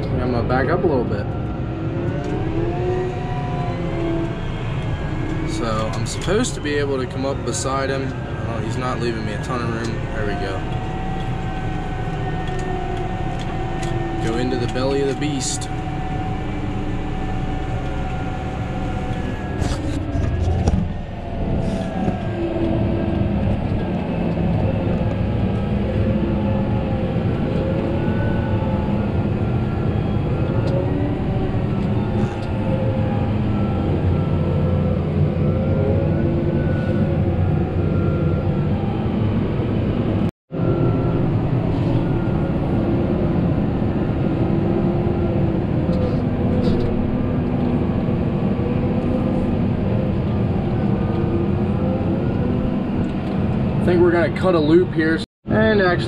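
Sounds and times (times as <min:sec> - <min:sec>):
tractor machinery drone: 0:00.0 - 0:56.0
wavering whine: 0:00.0 - 0:56.0.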